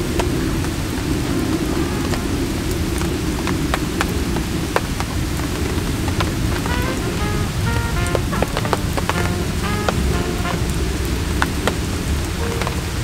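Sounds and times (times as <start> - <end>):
fire crackling and popping: 0.0 - 13.0
low rumble of flame: 0.0 - 13.0.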